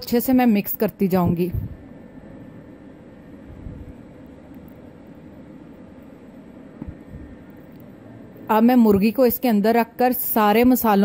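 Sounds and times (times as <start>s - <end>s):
low background hiss and rumble: 0.0s - 11.0s.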